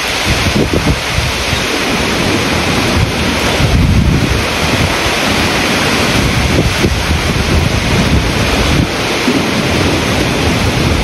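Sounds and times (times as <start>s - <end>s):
gusts buffeting microphone: 0.0s - 11.0s
wind and heavy rain: 0.0s - 11.0s.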